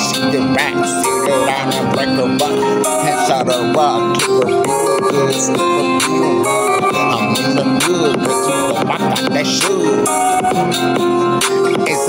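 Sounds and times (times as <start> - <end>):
loud hip-hop music: 0.0 - 12.0.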